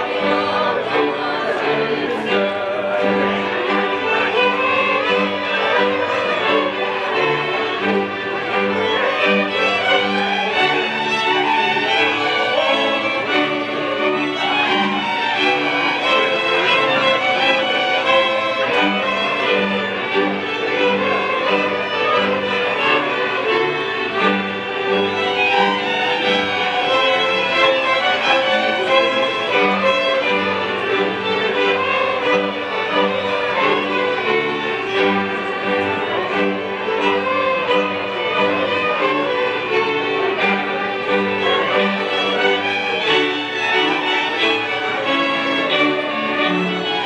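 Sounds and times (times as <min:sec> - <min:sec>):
bowed bass fiddle pulsing: 0:00.0 - 0:47.0
fiddle folk music: 0:00.0 - 0:47.0.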